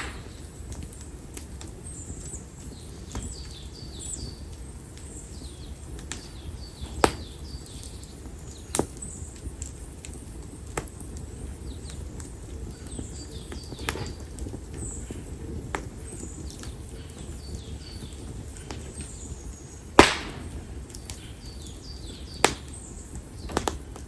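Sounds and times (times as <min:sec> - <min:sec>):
firewood crackling and popping: 0:00.0 - 0:24.0
low rush of flames: 0:00.0 - 0:24.0.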